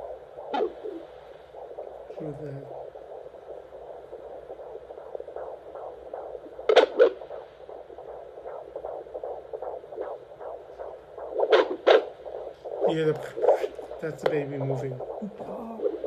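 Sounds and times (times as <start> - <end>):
fetal heartbeat whooshing pulse: 0.0 - 16.0.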